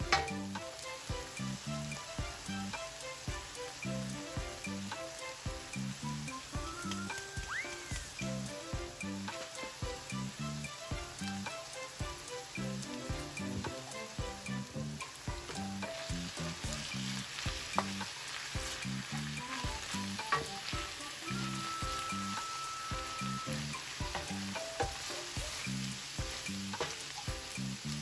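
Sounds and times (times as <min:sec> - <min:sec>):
wooden spoon stirring: 0:00.0 - 0:27.9
food sizzling in oil: 0:00.0 - 0:28.0.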